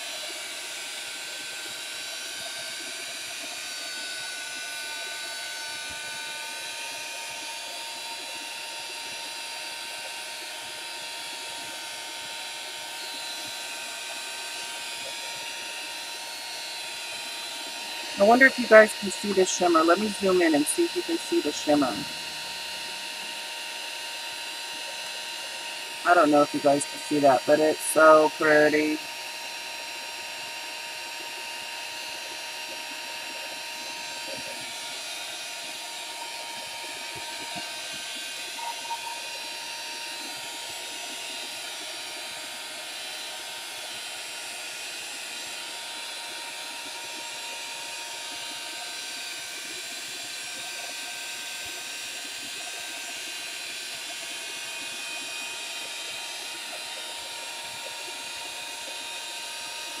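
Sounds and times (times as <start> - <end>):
heat gun blowing: 0.0 - 60.0.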